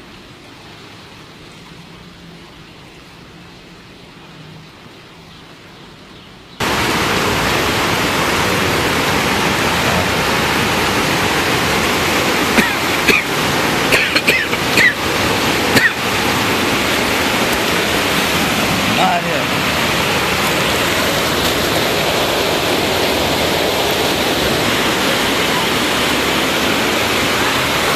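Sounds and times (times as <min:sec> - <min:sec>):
rain falling softly: 0:00.0 - 0:27.9
torrential rain rushing water: 0:00.0 - 0:27.9.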